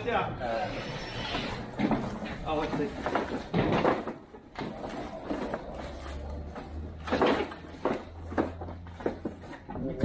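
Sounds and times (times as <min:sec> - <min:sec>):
pallet and chairs knocking and scraping: 0:01.7 - 0:10.0.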